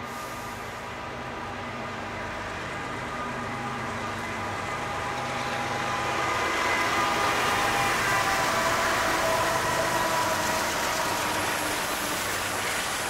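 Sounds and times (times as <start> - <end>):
train wheels rumbling on rail: 0.0 - 13.0
train whine: 0.0 - 13.0.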